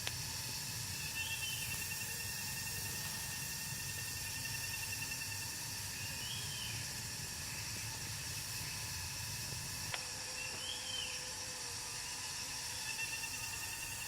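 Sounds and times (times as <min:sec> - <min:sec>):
insect drone: 0:00.0 - 0:14.0
outdoor hiss: 0:00.0 - 0:14.0.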